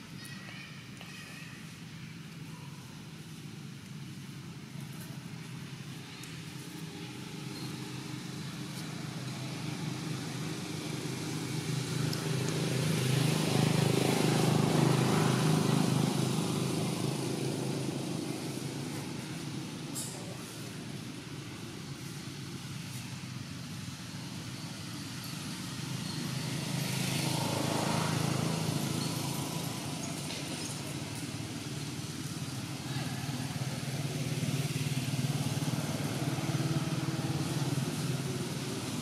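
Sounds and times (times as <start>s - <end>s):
vehicle engine passing by: 5.9s - 21.3s, 22.0s - 39.0s.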